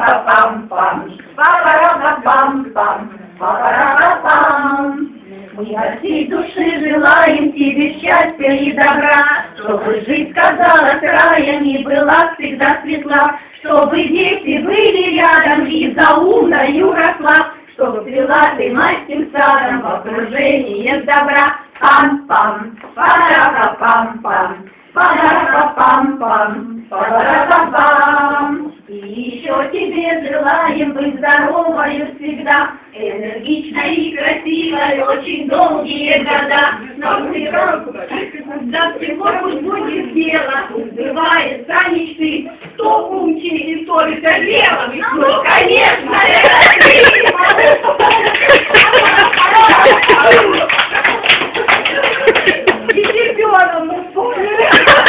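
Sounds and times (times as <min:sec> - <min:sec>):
women singing together: 0:00.0 - 0:55.0.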